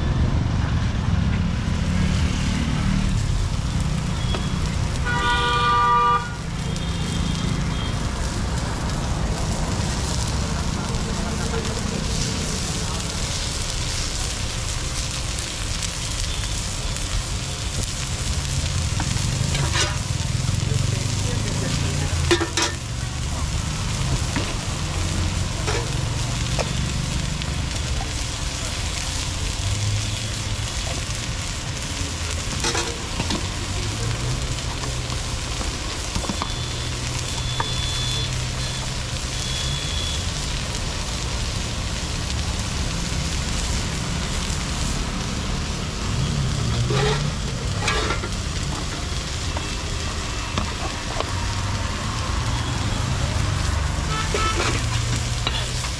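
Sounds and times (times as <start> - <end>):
low rumble of street traffic: 0.0 - 55.9
onion and paneer sizzling on griddle: 0.0 - 55.9.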